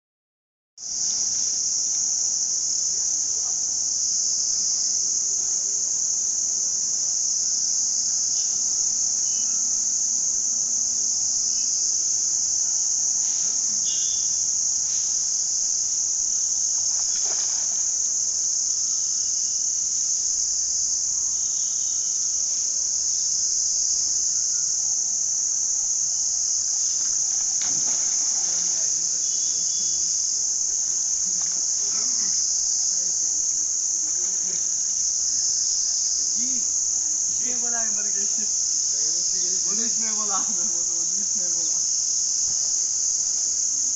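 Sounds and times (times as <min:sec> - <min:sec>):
insect chorus drone: 0:00.8 - 0:43.9.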